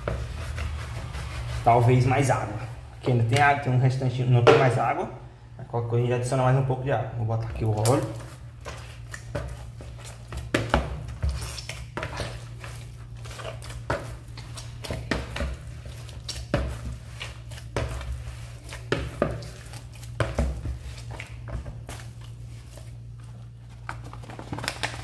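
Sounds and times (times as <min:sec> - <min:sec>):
dough squishing and slapping: 0:00.0 - 0:05.1, 0:07.3 - 0:25.0.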